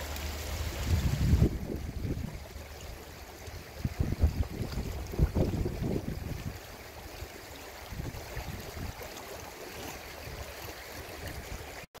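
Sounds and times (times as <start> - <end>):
river flowing over rocks: 0.0 - 11.9.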